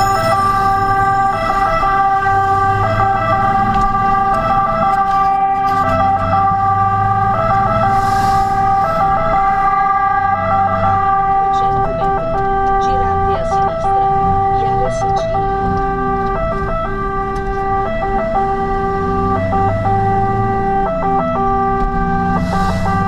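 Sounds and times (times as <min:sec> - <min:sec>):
diesel engine rumbling: 0:00.0 - 0:23.0
two-tone fire engine siren: 0:00.0 - 0:23.0.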